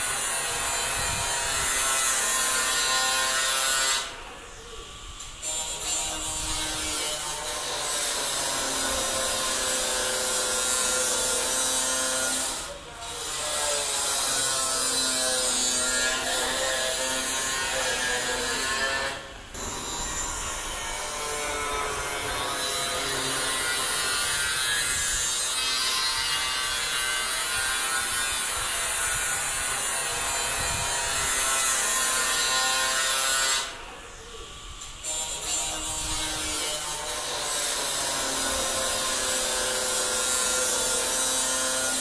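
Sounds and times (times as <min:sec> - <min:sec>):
saw cutting metal: 0:00.0 - 0:42.0.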